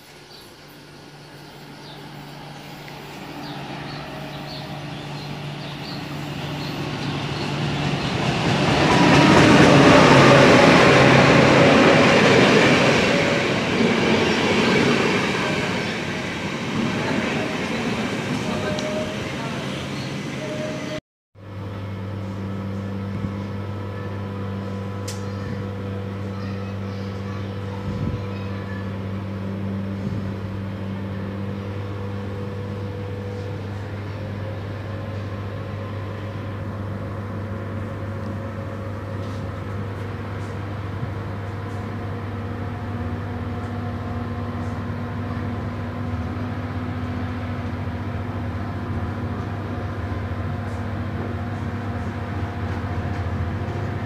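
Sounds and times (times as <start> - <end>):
locomotive diesel engine droning: 0.0 - 54.0.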